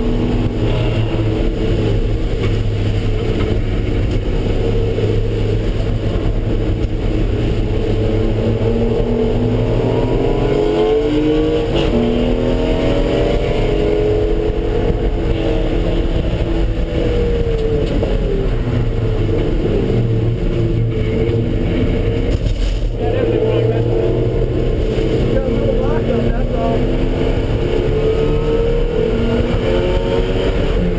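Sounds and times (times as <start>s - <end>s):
car engine accelerating: 0.0s - 30.9s
road and tyre noise: 0.0s - 30.9s.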